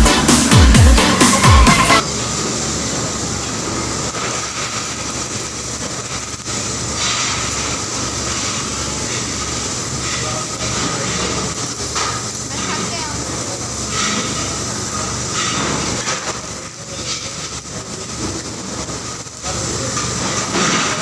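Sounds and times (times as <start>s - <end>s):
machinery hum with hiss: 0.0s - 21.0s.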